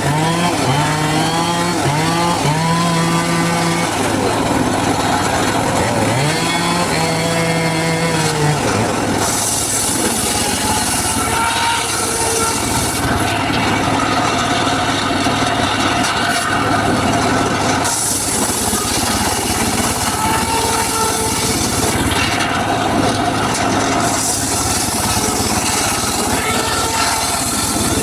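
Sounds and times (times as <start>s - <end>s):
circular saw humming: 0.0s - 28.0s
saw cutting wood: 0.0s - 28.0s.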